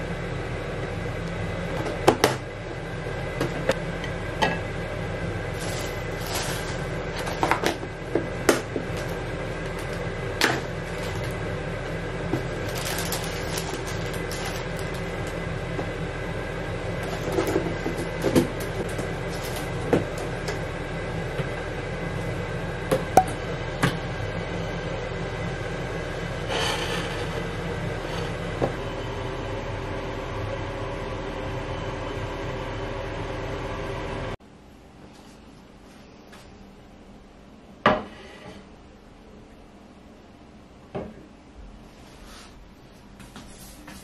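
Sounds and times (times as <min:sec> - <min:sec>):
mechanical hum: 0:00.0 - 0:44.0.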